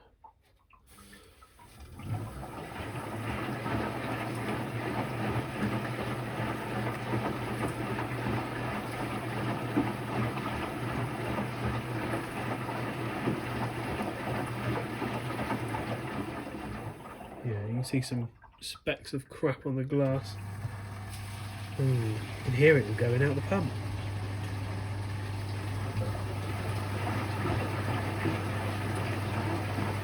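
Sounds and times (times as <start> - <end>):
washing machine drain pump humming: 0.8 - 18.3, 20.0 - 30.0.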